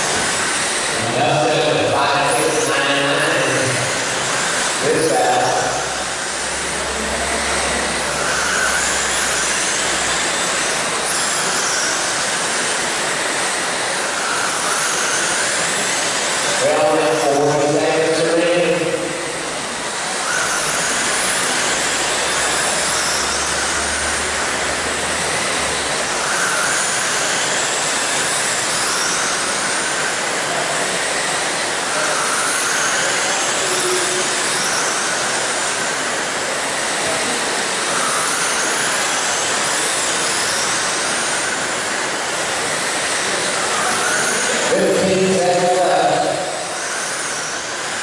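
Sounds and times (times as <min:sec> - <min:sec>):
electric motors whining: 0:00.0 - 0:48.0.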